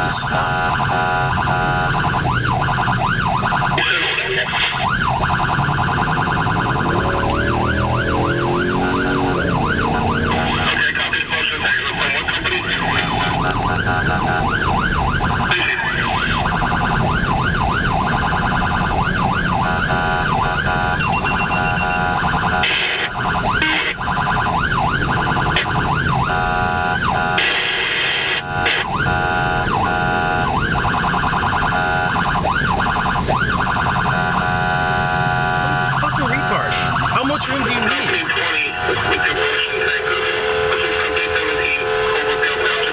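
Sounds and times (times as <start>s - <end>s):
electronic siren warbling and yelping: 0.0s - 42.9s
road and engine noise: 0.0s - 42.9s.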